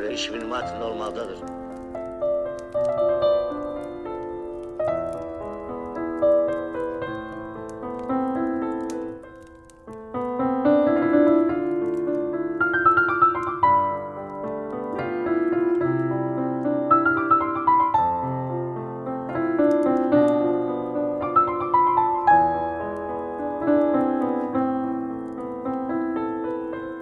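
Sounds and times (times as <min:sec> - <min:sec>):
fireplace crackling: 0:00.0 - 0:27.0
solo piano melody: 0:00.0 - 0:27.0.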